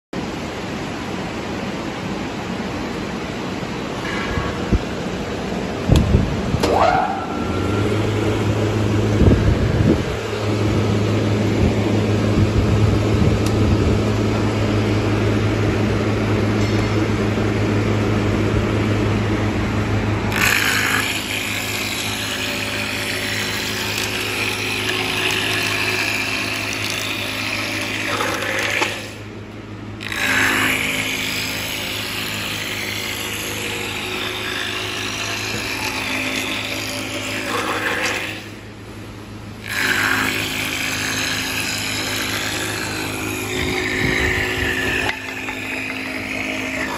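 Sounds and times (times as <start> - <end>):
machine motor humming: 2.0 - 46.9
wood cutting noise: 4.0 - 46.9.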